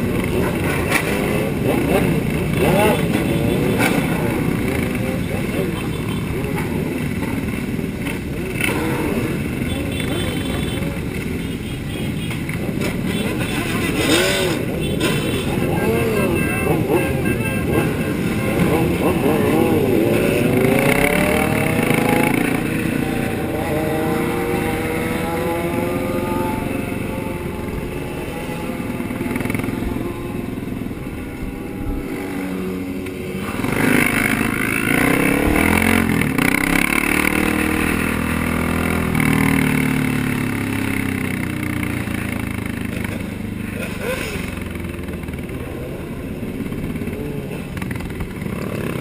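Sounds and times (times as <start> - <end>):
motorcycle engines revving: 0.0 - 49.0
road noise: 0.0 - 49.0.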